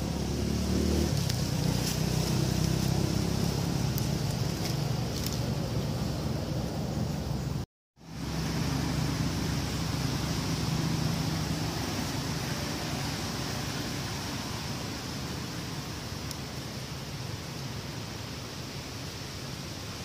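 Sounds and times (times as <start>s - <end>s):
outdoor hiss with low rumble: 0.0s - 20.0s.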